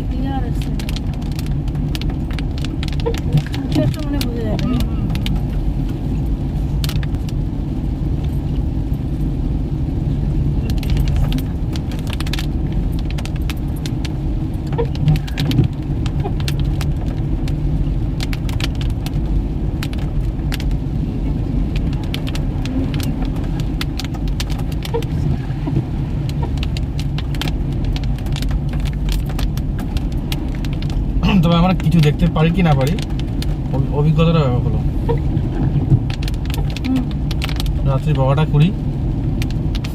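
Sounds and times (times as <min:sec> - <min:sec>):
sharp clicks and rattles: 0:00.0 - 0:07.5, 0:10.5 - 0:39.9
car rumble while driving: 0:00.0 - 0:39.9.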